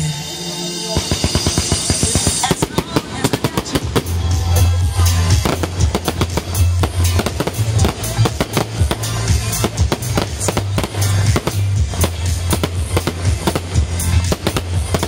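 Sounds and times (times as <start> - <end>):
fireworks bangs and crackles: 0.8 - 15.0.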